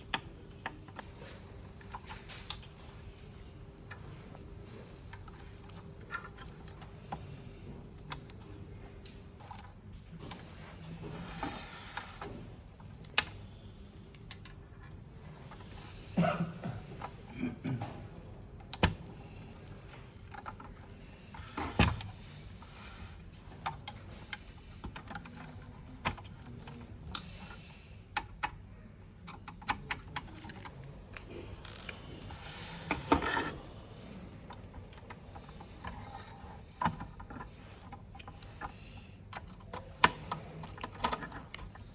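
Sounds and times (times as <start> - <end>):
tools and parts clicking: 0.0 - 16.2, 16.8 - 41.9.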